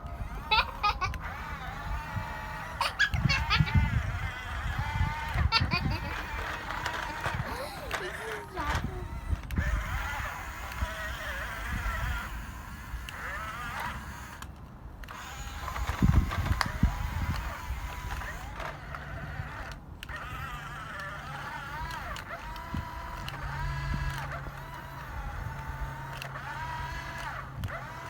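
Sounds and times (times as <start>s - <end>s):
small electric motors whining: 0.0s - 28.0s.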